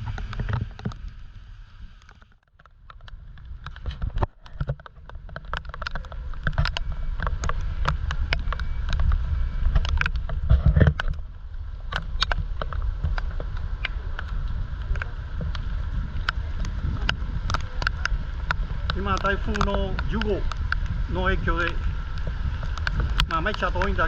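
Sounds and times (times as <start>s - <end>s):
raindrops ticking: 0.0s - 24.0s
wind buffeting microphone: 0.0s - 24.0s.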